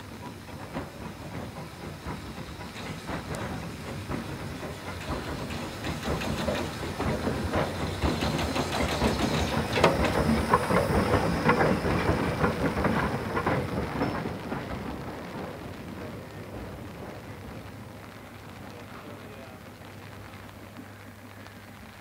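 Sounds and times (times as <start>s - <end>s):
steam hissing: 0.0s - 19.6s
steam locomotive exhaust beats: 0.0s - 22.0s.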